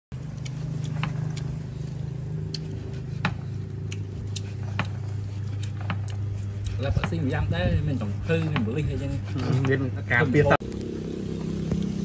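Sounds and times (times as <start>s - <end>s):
motor low hum: 0.1s - 12.0s.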